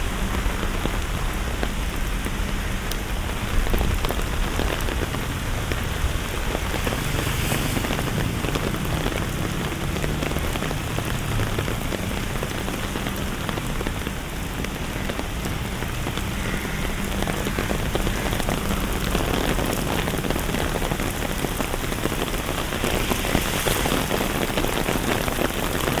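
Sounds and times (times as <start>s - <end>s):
rain on hard surfaces: 0.0s - 26.0s.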